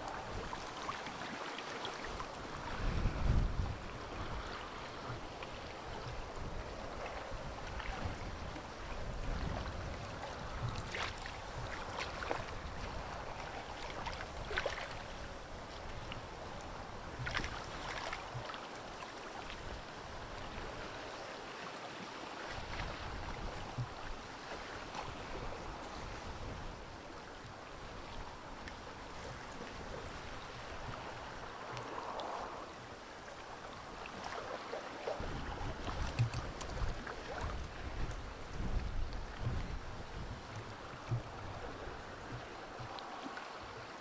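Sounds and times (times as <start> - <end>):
moving water and floating ice: 0.0 - 44.0.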